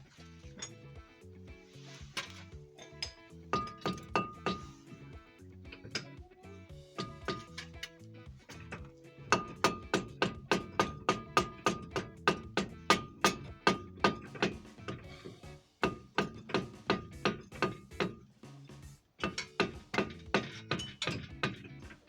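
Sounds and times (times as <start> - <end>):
music with fast percussive beat: 0.0 - 22.0.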